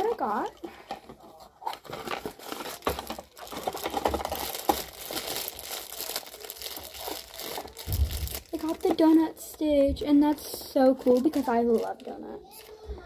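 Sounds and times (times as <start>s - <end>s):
plastic packet crinkling and tearing: 1.6s - 12.8s.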